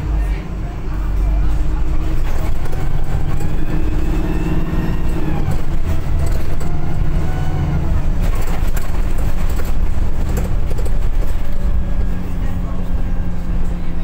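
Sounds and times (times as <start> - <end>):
bus diesel engine whine: 0.0 - 14.0.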